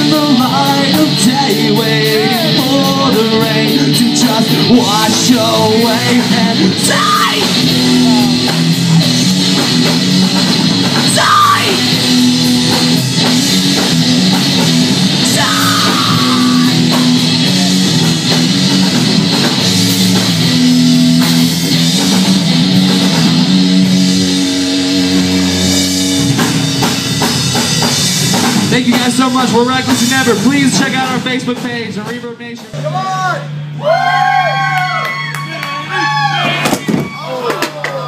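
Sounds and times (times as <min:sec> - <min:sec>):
drum kit: 0:00.0 - 0:38.0
electric guitars: 0:00.0 - 0:38.0.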